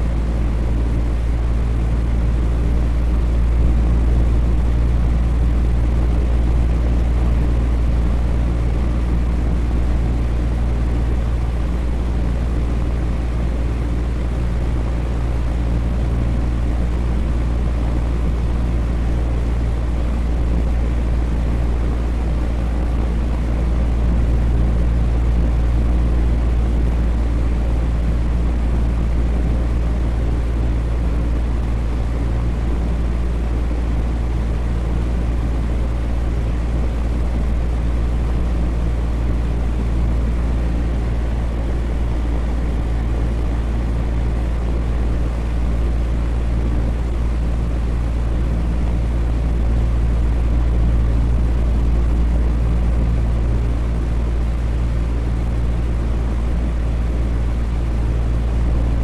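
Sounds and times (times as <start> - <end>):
electric fan whooshing and humming: 0.0 - 59.0.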